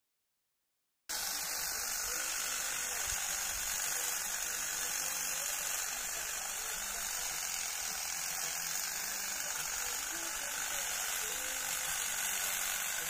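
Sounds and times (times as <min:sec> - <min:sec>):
electric hedge trimmer running: 0:01.1 - 0:13.0.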